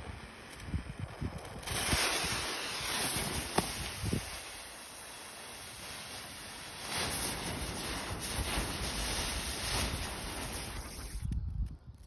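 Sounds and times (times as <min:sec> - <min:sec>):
fuse burning with a hiss: 0:00.0 - 0:12.0.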